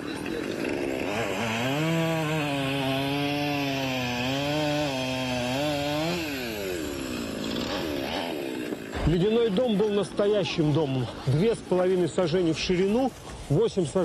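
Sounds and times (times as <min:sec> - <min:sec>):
chainsaw cutting ice: 0:00.0 - 0:11.4.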